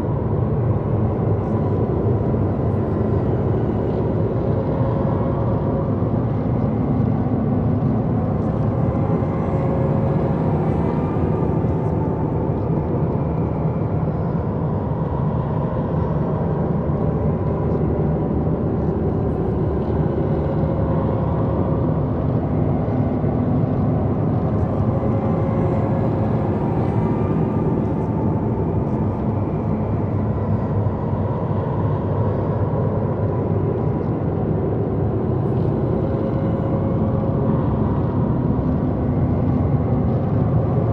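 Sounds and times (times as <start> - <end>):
low rumbling drone: 0.0 - 40.9.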